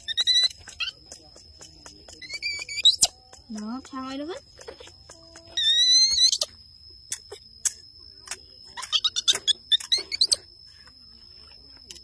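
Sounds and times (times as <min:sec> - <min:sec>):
baby monkey squeaking: 0:00.0 - 0:07.4, 0:08.2 - 0:10.5.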